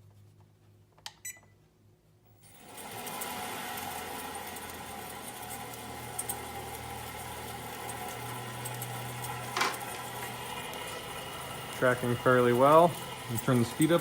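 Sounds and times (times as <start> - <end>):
belt grinder running: 2.4 - 14.0.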